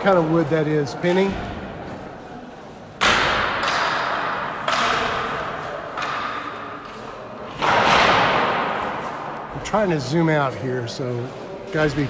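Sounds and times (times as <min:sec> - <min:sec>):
heavy echoing construction bangs: 0:00.0 - 0:10.6.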